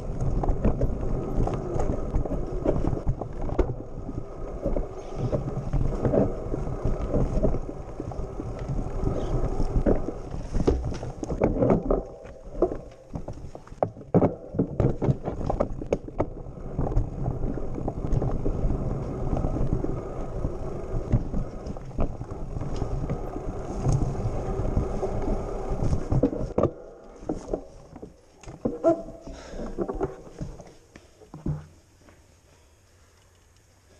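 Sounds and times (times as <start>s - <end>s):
bike rattling over rocks: 0.0s - 31.7s
bike tyres rumbling on dirt: 0.0s - 31.8s.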